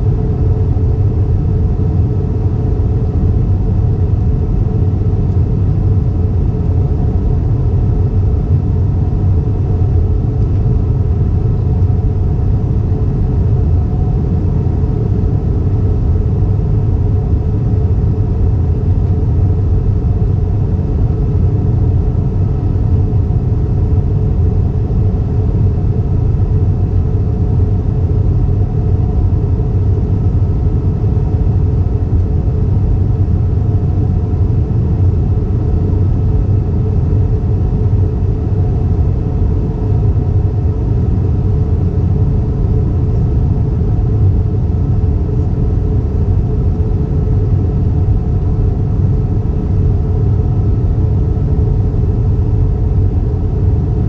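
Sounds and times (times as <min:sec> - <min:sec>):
jet engines and airflow drone: 0:00.0 - 0:54.0.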